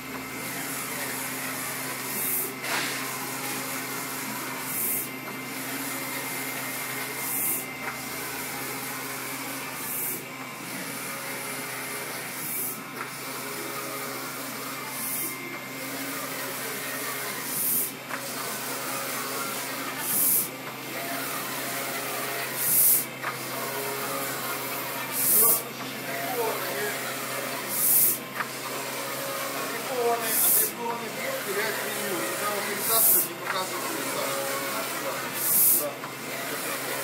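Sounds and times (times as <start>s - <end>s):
printer motors and fans humming: 0.0s - 37.0s.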